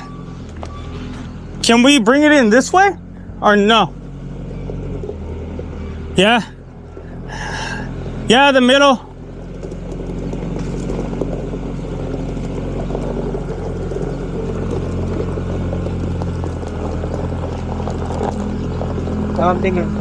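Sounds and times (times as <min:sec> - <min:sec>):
loader engine running under load: 0:00.0 - 0:20.0.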